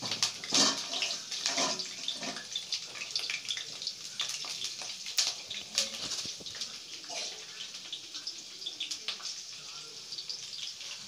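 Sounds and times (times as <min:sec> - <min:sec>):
crackles and pops of frying: 0:00.0 - 0:11.0
vegetables sizzling in hot oil: 0:00.0 - 0:11.0.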